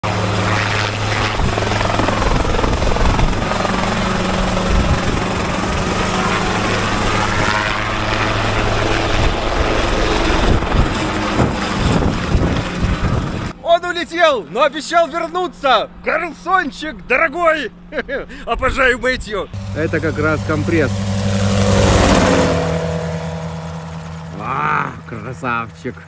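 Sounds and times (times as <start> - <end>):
helicopter hovering: 0.0 - 26.0.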